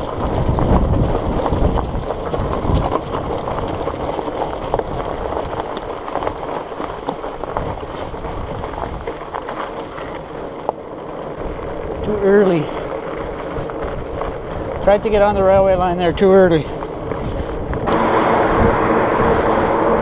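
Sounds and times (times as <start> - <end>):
bike tyres on rough ground: 0.0 - 20.0
wind buffeting microphone: 0.0 - 20.0.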